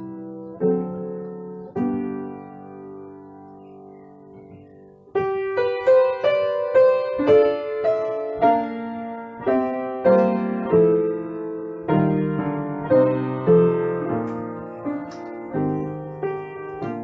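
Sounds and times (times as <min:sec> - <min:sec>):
slow gentle solo piano: 0:00.0 - 0:17.0.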